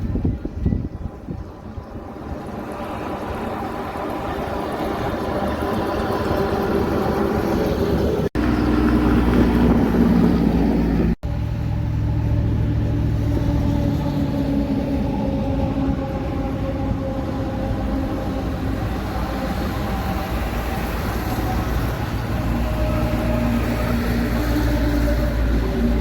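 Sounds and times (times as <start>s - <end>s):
heavy trucks on road: 0.0s - 26.0s
truck passing close: 1.0s - 26.0s.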